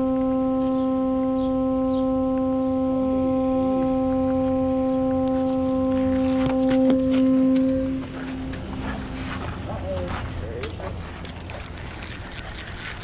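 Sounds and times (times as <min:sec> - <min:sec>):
horn-like drone: 0:00.0 - 0:13.0.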